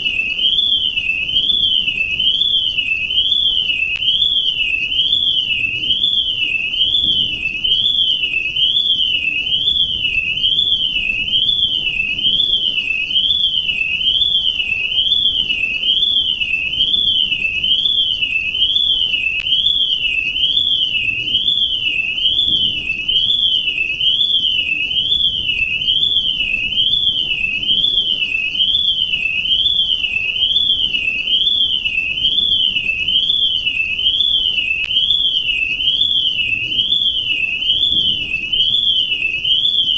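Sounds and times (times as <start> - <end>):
warbling electronic alarm: 0.0 - 39.9.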